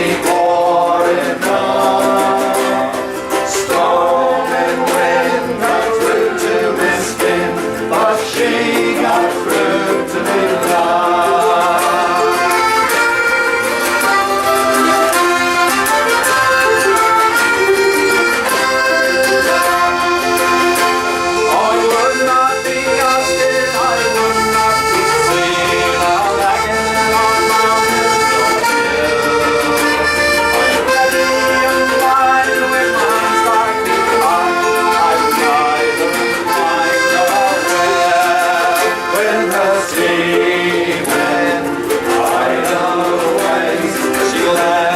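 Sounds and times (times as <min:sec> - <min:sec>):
accordion chords: 0:00.0 - 0:44.9
folk band playing: 0:00.0 - 0:44.9.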